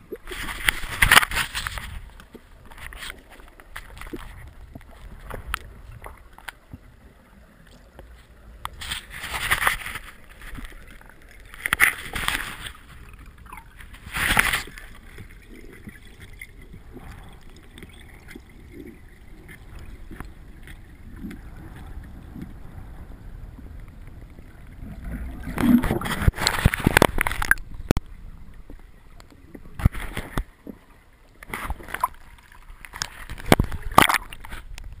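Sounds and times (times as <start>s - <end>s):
water splashing: 0.0s - 35.0s.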